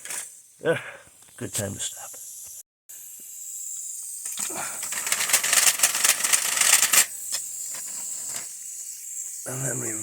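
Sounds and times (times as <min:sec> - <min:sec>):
toy steam locomotive hissing: 0:01.7 - 0:10.0.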